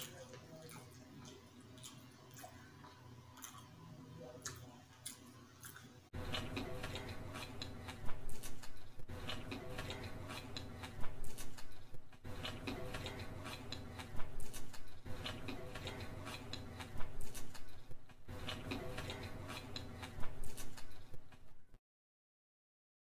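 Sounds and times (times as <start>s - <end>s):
person chewing food: 0.0s - 21.7s.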